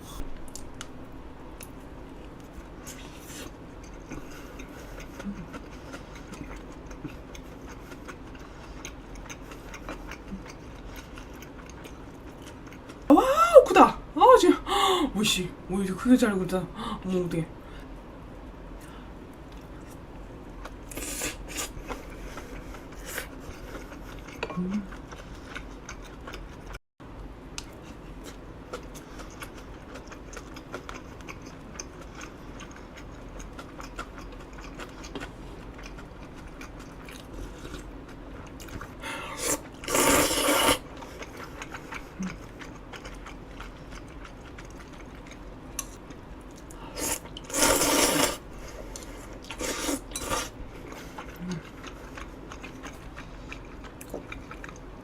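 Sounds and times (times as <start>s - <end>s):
person chewing: 1.6s - 13.1s, 20.6s - 26.8s, 27.6s - 55.0s.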